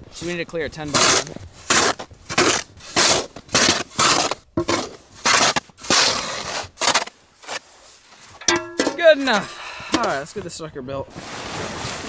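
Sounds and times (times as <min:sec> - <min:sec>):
snow shovel scraping ice: 0:00.2 - 0:12.0.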